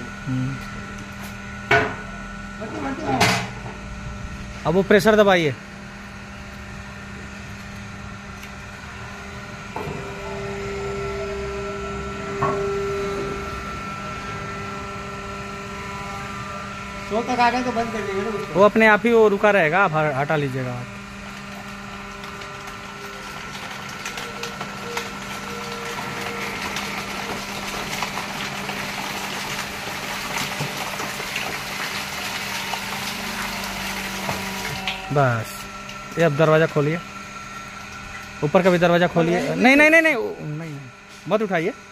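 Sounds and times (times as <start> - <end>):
electric motor and pump humming: 0.0 - 41.9
hydraulic pump whine: 0.0 - 41.9.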